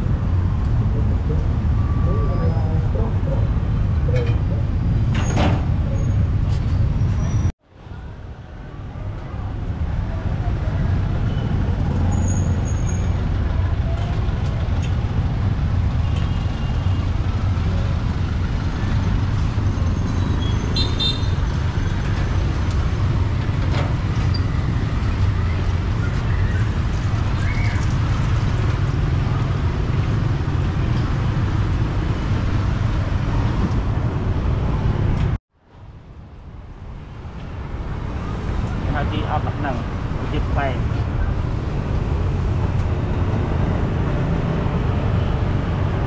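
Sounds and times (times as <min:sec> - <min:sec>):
street traffic rumble: 0:00.0 - 0:46.0.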